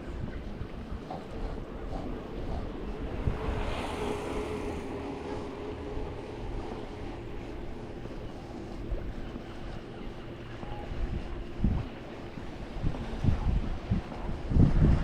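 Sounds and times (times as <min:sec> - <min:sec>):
engine hum: 0:00.0 - 0:14.6
wind rumbling on microphone: 0:00.0 - 0:15.0.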